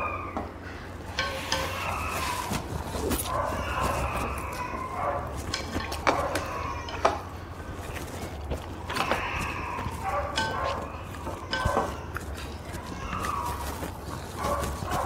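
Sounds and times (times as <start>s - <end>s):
chopsticks clicking on bowls: 1.0s - 15.0s.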